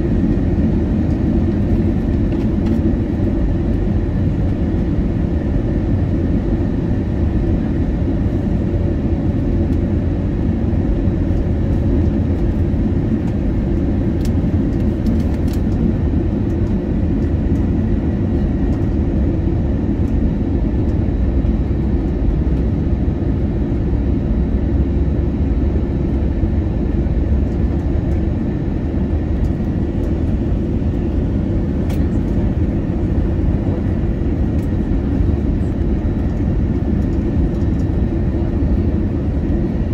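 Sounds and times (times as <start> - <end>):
airflow and engine rumble: 0.0 - 39.9.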